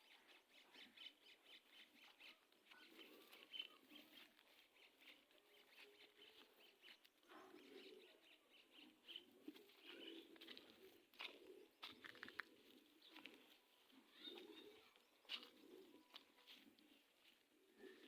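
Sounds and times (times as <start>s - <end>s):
faint bird chirps: 0.0s - 11.1s, 12.6s - 18.0s.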